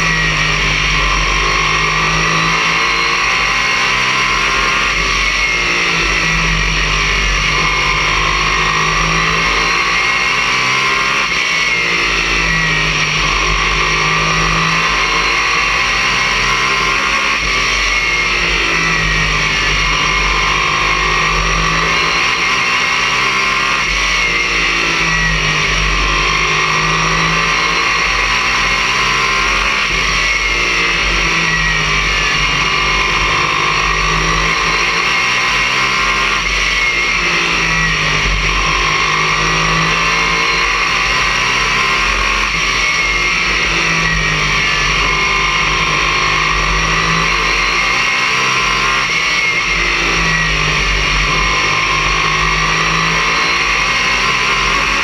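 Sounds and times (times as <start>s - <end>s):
race car engine: 0.0s - 55.0s.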